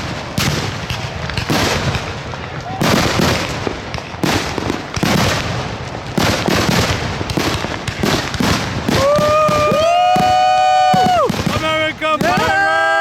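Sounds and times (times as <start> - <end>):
fireworks bangs with echo: 0.0 - 13.0.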